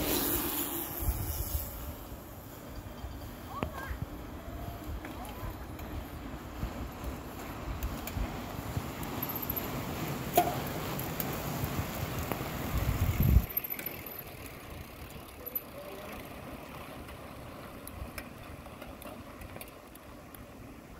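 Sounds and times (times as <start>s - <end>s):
bike tyres and drivetrains whirring: 0.0s - 20.9s.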